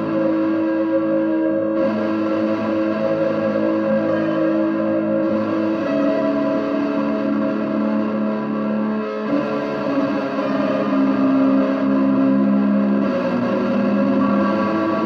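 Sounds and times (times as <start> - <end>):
ambient electric guitar drone: 0.0 - 15.0.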